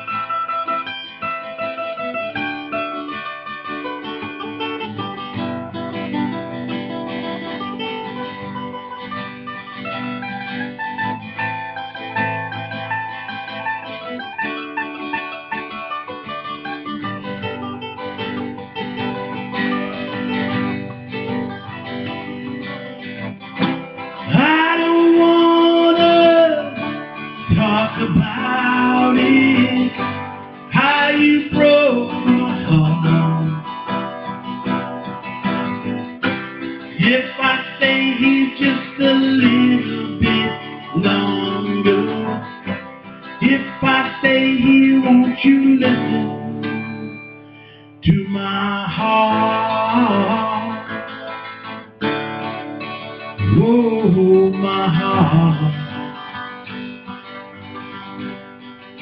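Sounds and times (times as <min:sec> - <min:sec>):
acoustic guitar picking melody: 0:00.0 - 0:59.0
acoustic guitar strumming chords: 0:00.0 - 0:59.0.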